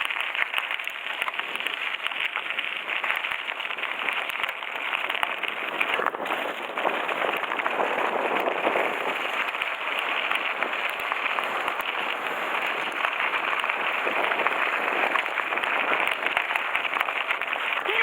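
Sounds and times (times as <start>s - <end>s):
bike tyres rolling on gravel: 0.0s - 18.0s.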